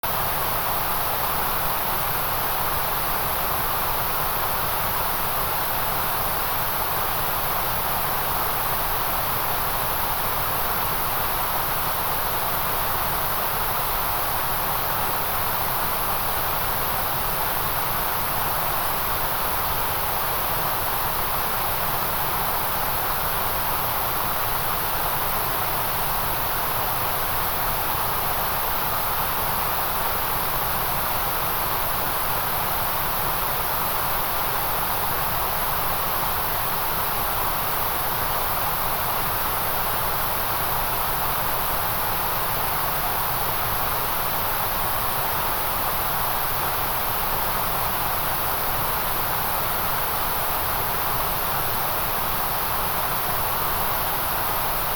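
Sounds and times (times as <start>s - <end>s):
steady white noise hiss: 0.0s - 54.9s.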